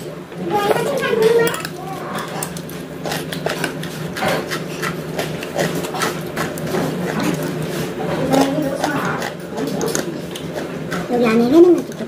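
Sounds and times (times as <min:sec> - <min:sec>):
steady low hum: 0:00.0 - 0:12.0
chopsticks clicking on dishes: 0:00.6 - 0:07.5, 0:08.3 - 0:12.0.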